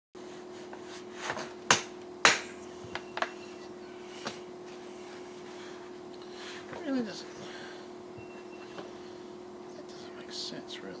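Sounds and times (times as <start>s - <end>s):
faint steady hum: 0.2s - 11.0s.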